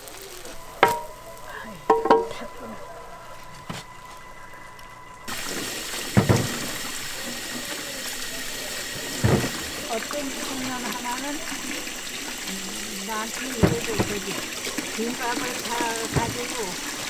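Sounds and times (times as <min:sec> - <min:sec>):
tap running into water: 0:00.0 - 0:02.6, 0:03.5 - 0:17.0.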